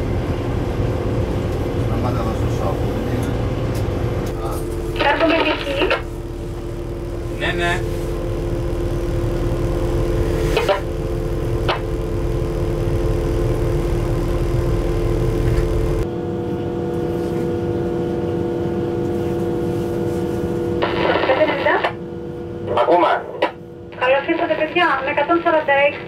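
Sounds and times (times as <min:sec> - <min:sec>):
locomotive cab rumble and hum: 0:00.0 - 0:26.0.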